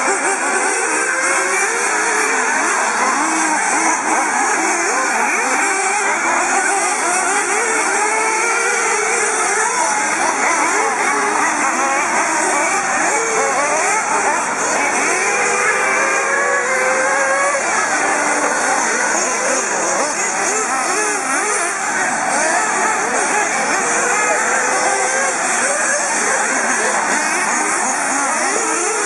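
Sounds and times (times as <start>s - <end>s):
rc buggy engines racing: 0.0s - 29.0s.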